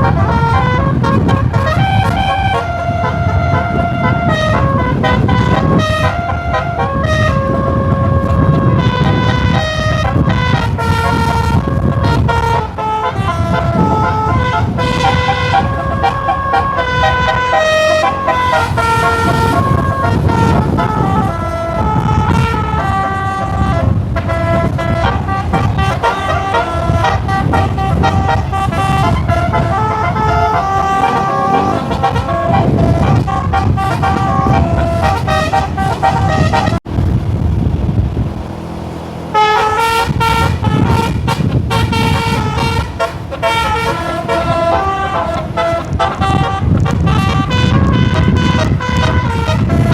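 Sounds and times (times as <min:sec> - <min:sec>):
bus engine rumble: 0:00.0 - 0:49.9
multi-tone bus horn melody: 0:00.0 - 0:49.9
road noise: 0:00.0 - 0:49.9.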